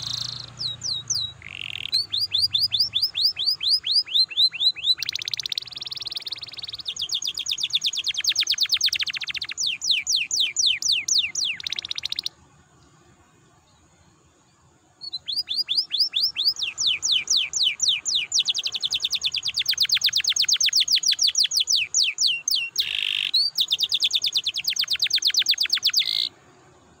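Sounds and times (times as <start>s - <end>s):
canary singing trills: 0.0s - 12.4s, 15.0s - 26.4s.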